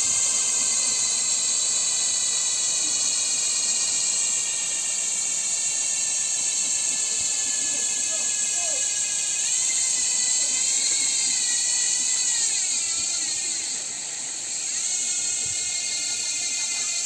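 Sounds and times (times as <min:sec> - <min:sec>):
bicycle freehub buzzing: 0:00.0 - 0:17.0.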